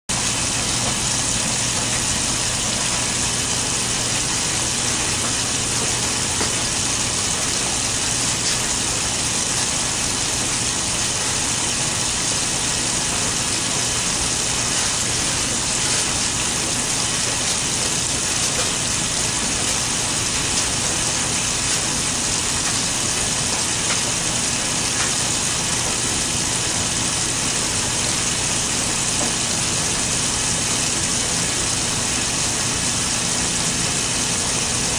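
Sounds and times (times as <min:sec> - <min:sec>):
washing machine running: 0:00.1 - 0:34.9.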